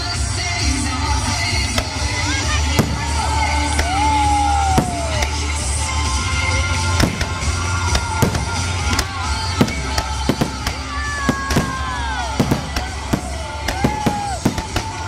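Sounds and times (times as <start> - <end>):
fireworks bursting and crackling: 0.0 - 15.0
music playing: 0.0 - 15.0.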